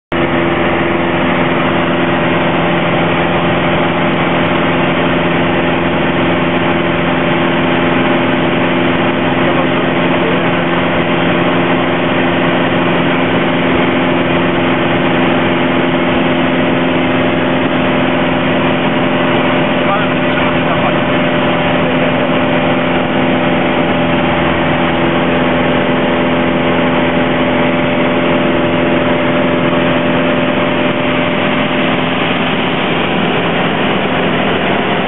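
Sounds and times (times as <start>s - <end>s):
aircraft engine and propeller droning: 0.1s - 35.0s.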